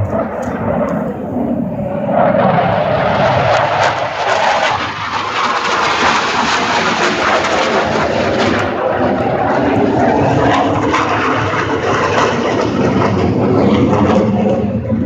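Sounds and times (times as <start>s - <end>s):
jet roaring past: 0.0s - 15.0s.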